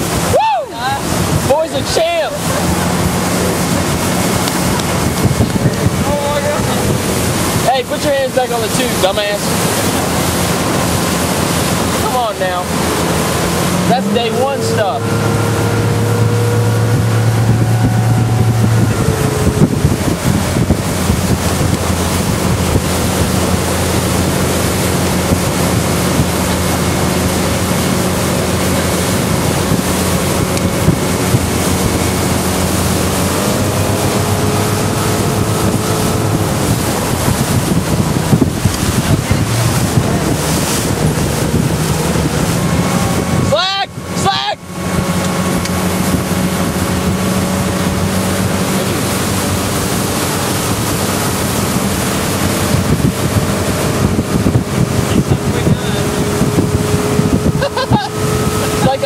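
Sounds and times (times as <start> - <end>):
motorboat engine running: 0.0 - 59.0
rush of wake: 0.0 - 59.0
wind buffeting microphone: 0.0 - 59.0.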